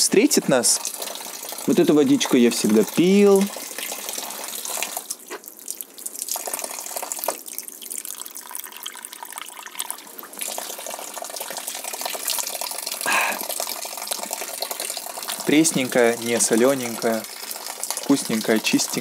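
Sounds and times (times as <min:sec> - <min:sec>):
water trickling and dripping: 0:00.0 - 0:19.0.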